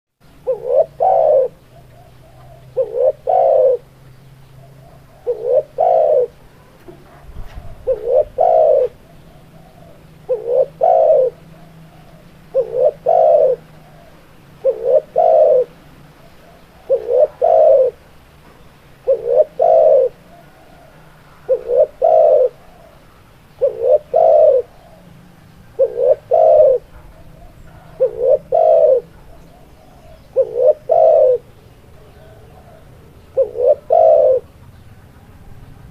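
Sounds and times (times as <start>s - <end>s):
dove cooing: 0.3s - 18.2s, 19.0s - 34.8s.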